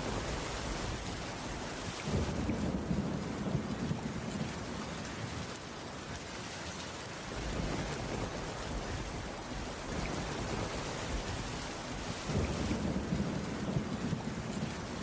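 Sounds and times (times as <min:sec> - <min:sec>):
distant thunder rumble: 0:00.0 - 0:05.6, 0:07.3 - 0:15.0
rain falling on a roof: 0:00.0 - 0:15.0.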